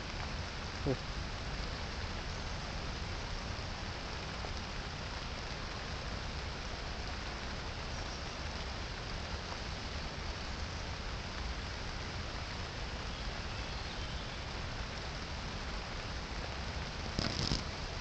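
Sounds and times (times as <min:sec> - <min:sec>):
rain on road and trees: 0:00.0 - 0:18.0.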